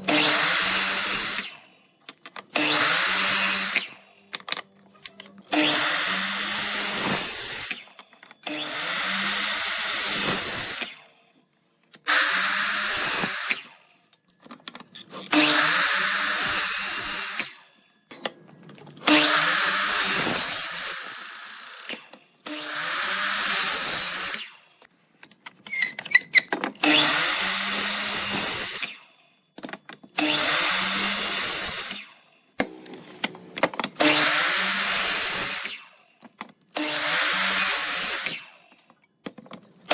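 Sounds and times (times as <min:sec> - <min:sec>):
power tool whining on wood: 0:00.0 - 0:04.4, 0:05.1 - 0:11.2, 0:12.0 - 0:14.0, 0:15.0 - 0:17.8, 0:19.0 - 0:24.9, 0:25.7 - 0:32.4, 0:33.2 - 0:39.0.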